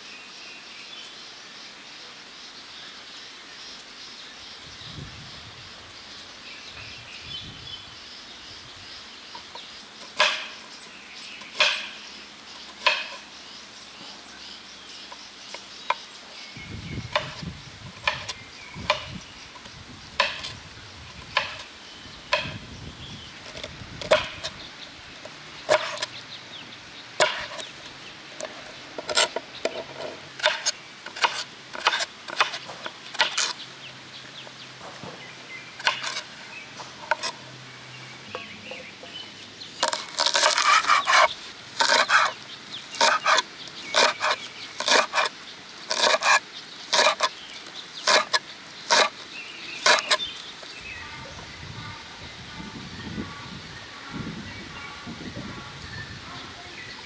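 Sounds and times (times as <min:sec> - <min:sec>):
steady hiss: 0:00.0 - 0:57.0
bird chirps: 0:06.0 - 0:52.0.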